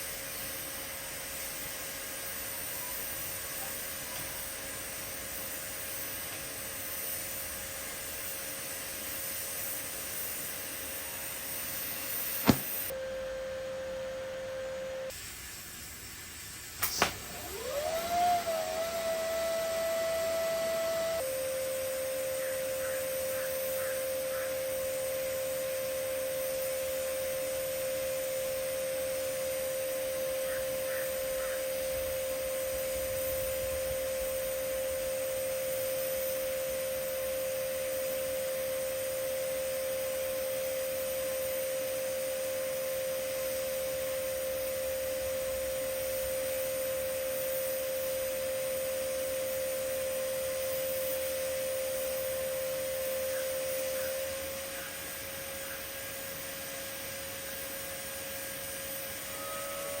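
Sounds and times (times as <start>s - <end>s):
welding arc humming and hissing: 0.0s - 60.0s.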